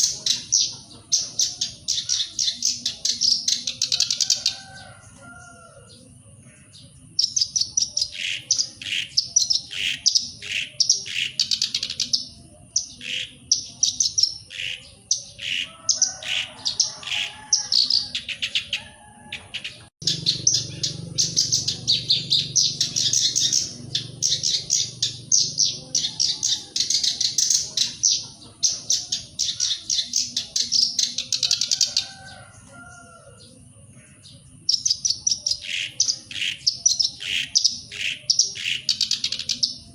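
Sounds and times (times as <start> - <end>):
reed warbler singing: 6.6 - 39.9.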